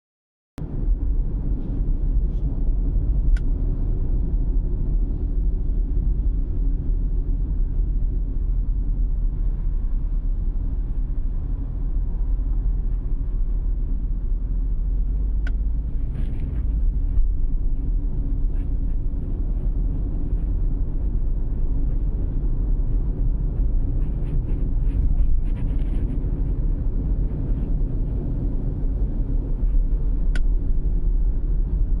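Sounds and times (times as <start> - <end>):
road and engine rumble: 0.6 - 32.0.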